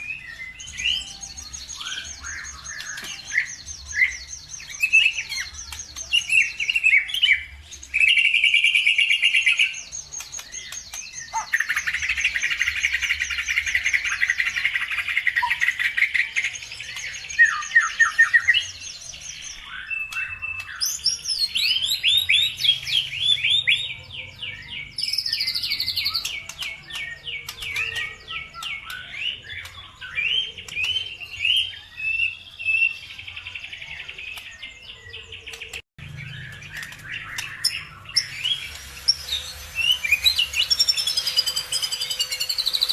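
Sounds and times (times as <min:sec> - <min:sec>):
songbirds trilling and chirping: 0:00.0 - 0:42.9.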